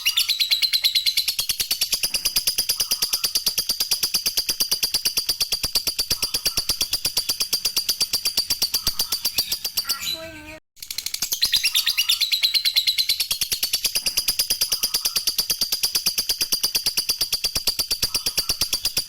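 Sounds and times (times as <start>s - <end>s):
lovebird rapid chatter: 0.0s - 19.0s.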